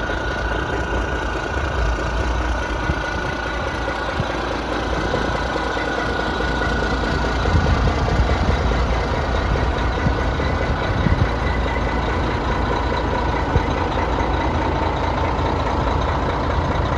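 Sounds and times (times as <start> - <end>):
diesel truck engine running: 0.0 - 16.9.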